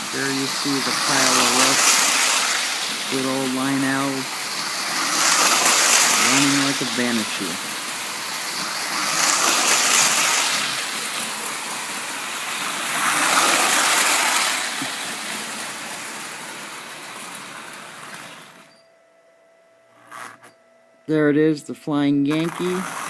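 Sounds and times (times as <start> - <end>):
toy train motor whirring: 0.0 - 18.7, 22.3 - 23.0.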